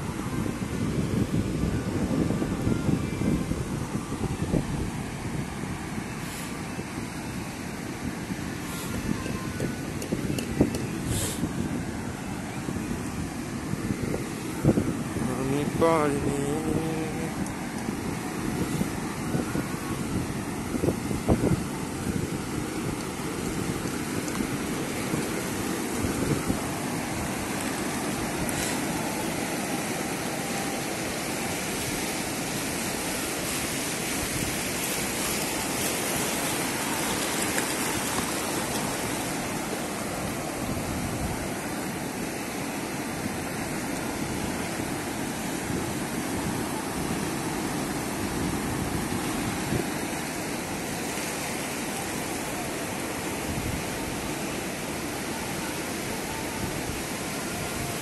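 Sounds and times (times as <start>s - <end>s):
waves washing over rocks: 0.0s - 58.0s.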